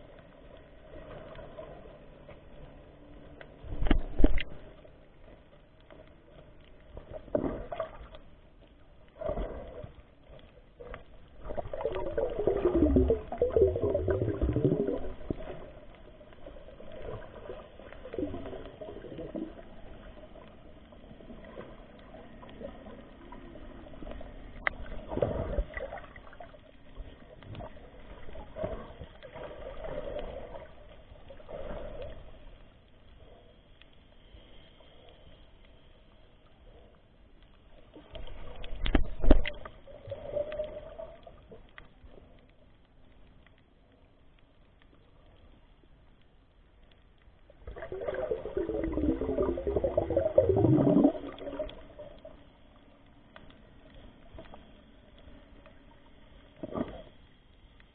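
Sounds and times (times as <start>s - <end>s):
water moving underwater: 0.0s - 57.9s.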